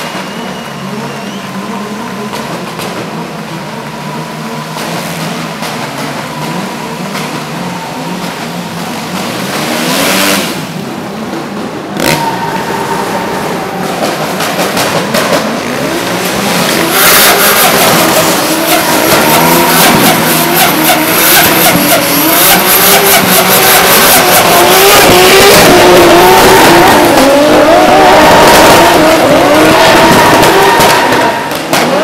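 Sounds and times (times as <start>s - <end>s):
tyre squeal and skidding: 0.0s - 10.7s, 12.0s - 32.0s
engines revving: 0.0s - 32.0s.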